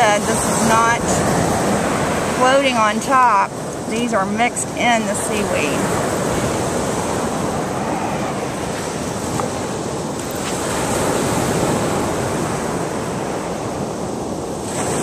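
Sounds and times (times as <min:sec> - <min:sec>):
surf washing over sand: 0:00.0 - 0:15.0
wind on microphone: 0:00.0 - 0:15.0.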